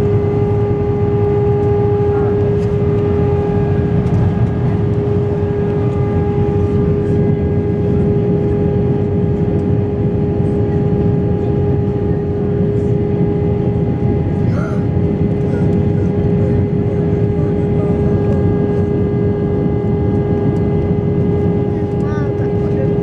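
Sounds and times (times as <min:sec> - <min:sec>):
aircraft cabin engine roar: 0:00.0 - 0:23.0.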